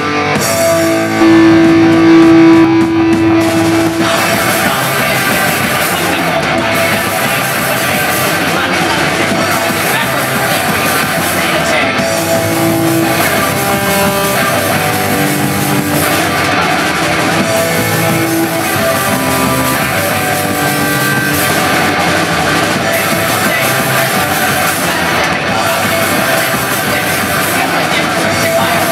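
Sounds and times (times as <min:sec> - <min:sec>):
loud rock music: 0:00.0 - 0:28.9.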